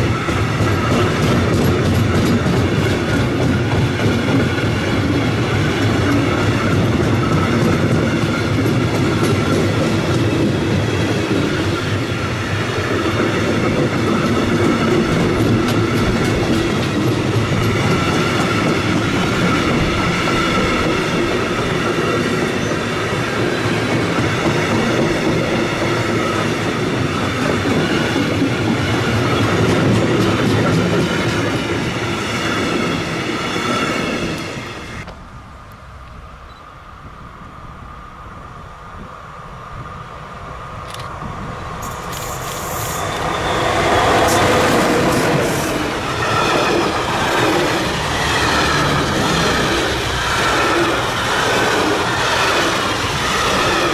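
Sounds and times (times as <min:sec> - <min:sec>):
train wheels on rail: 0:00.0 - 0:53.9.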